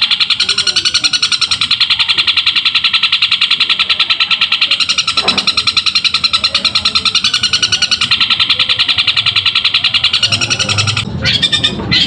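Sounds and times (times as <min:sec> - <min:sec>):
bird singing sharp chatter: 0:00.0 - 0:12.0.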